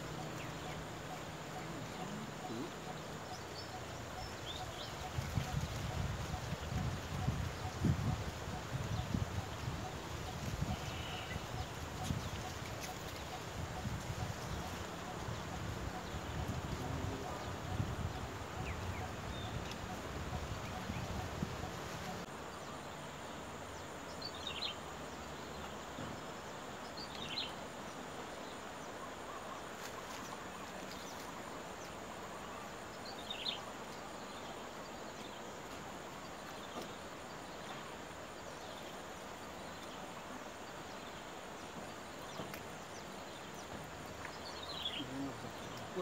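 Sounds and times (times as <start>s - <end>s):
outdoor background hiss: 0.0s - 46.0s.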